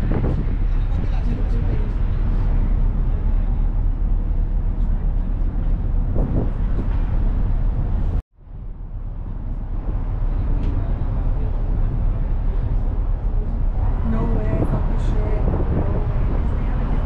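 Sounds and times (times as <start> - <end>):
ferry engine rumble: 0.0 - 17.0
wind on microphone: 0.0 - 17.0.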